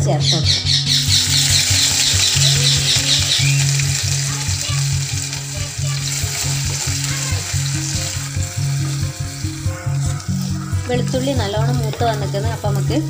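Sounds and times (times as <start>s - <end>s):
background music bass line: 0.0s - 13.0s
garlic sizzling in hot oil: 0.5s - 13.0s.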